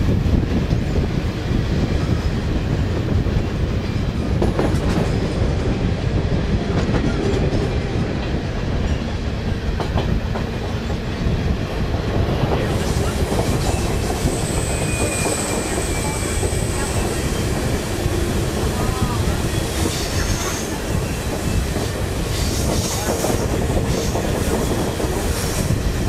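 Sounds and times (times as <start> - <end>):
rail wheels rumbling and clattering: 0.0 - 26.0.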